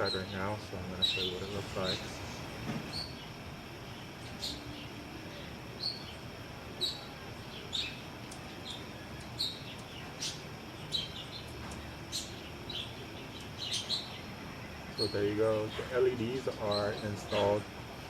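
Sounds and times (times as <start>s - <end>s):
birds chirping: 0.0s - 18.0s
outdoor background noise: 0.0s - 18.0s.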